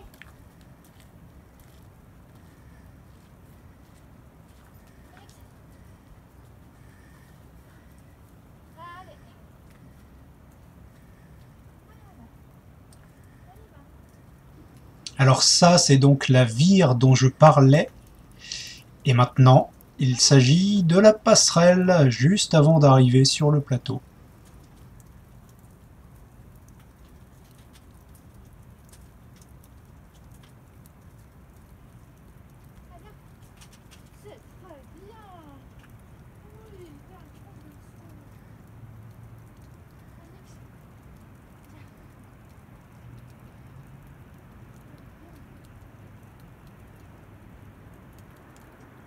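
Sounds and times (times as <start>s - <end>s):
soft irregular ticks: 0.0s - 15.6s, 16.2s - 21.4s, 23.5s - 49.0s
low outdoor rumble: 0.0s - 49.0s.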